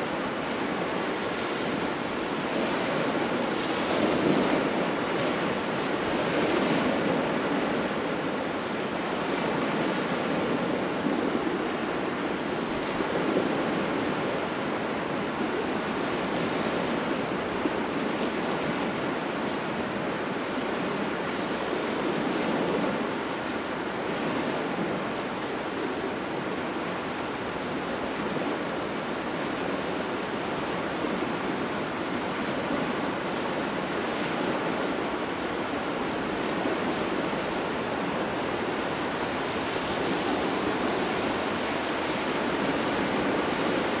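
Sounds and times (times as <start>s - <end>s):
waves washing onto shore: 0.0s - 44.0s.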